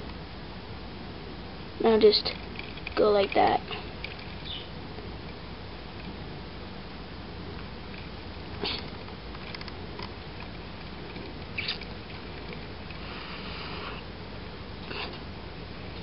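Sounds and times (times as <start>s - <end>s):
low background noise: 0.0s - 16.0s
soft brushing hiss: 1.5s - 16.0s.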